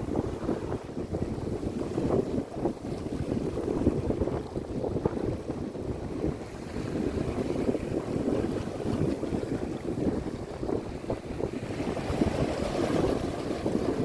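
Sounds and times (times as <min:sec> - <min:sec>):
rushing sea water: 0:00.0 - 0:14.0
wind buffeting microphone: 0:00.0 - 0:14.0.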